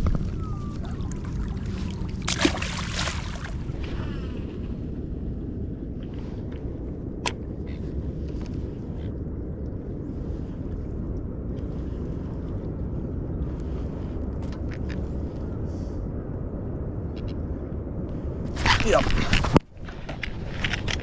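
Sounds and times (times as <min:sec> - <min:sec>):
low rumble of wind and water: 0:00.0 - 0:21.0.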